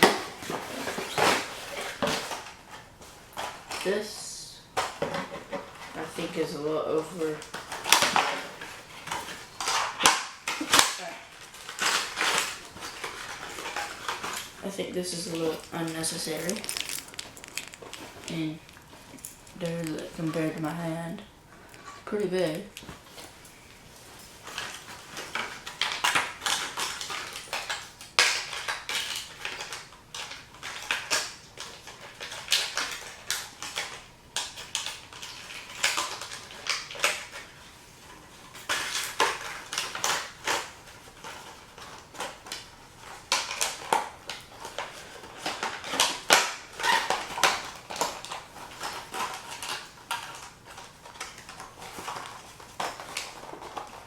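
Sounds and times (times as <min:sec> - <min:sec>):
plastic packaging crinkling: 0:00.0 - 0:54.0.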